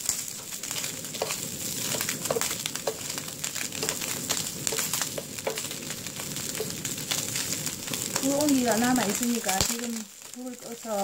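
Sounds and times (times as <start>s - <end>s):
fat crackling pops: 0.0s - 10.9s
meat sizzling in a frying pan: 0.0s - 11.0s.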